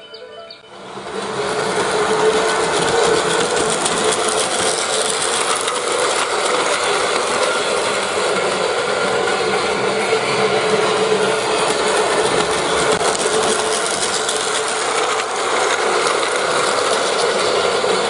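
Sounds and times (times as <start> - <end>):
toy train motor whirring: 1.2 - 18.0.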